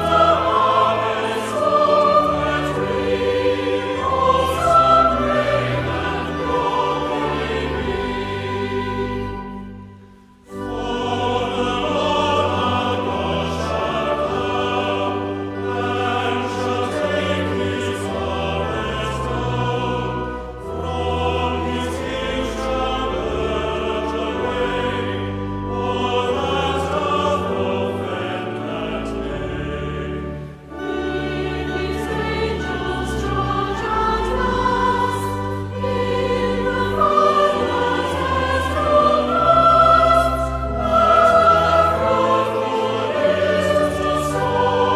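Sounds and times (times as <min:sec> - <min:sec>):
choir singing a hymn: 0:00.0 - 0:44.9
instrumental accompaniment: 0:00.0 - 0:44.9.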